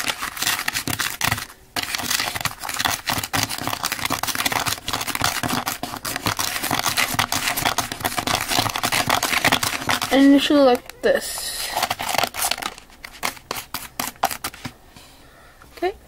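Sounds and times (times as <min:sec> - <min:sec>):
utensil scraping plastic tray: 0:00.0 - 0:14.8.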